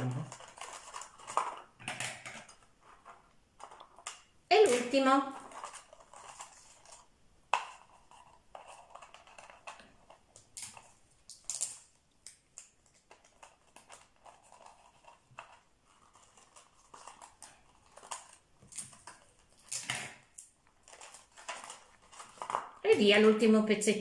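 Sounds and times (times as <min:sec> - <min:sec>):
plastic crackling and rustling: 0:00.0 - 0:24.0.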